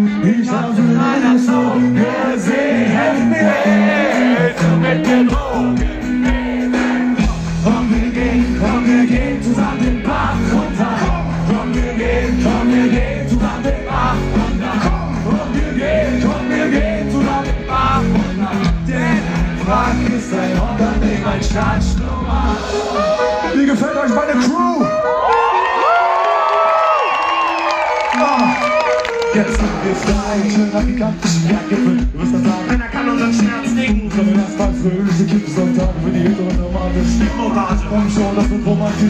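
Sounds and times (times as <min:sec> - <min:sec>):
lead vocal: 0:00.0 - 0:23.6, 0:29.2 - 0:39.0
live rock band: 0:00.0 - 0:25.8, 0:26.6 - 0:39.0.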